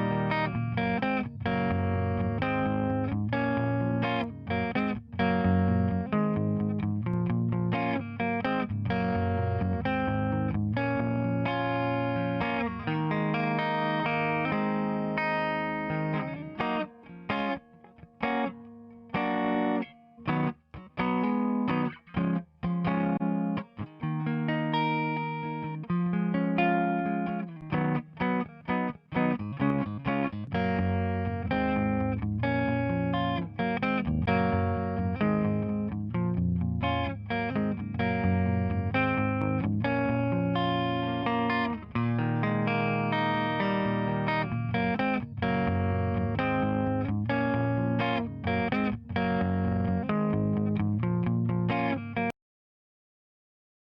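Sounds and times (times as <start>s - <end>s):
electric guitar chords: 0.0s - 52.3s.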